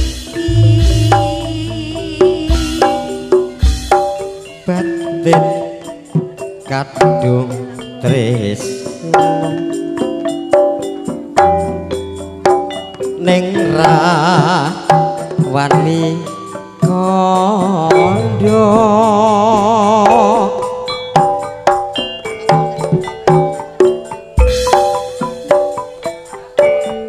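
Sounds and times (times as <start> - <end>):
hand drum strokes: 0.0 - 7.7, 12.5 - 26.7
struck metallophone notes: 0.0 - 27.0.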